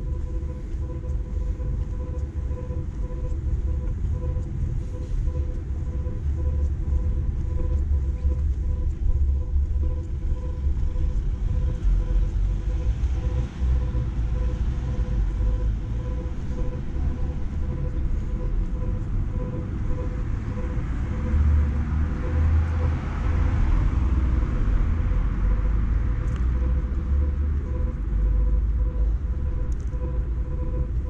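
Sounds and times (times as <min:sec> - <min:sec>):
city traffic rumble: 0:00.0 - 0:31.0
faint steady whine: 0:00.0 - 0:31.0.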